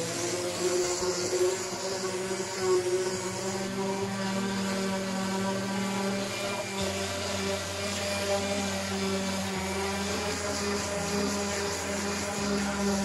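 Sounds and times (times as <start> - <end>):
orbital sander running: 0.0 - 13.0.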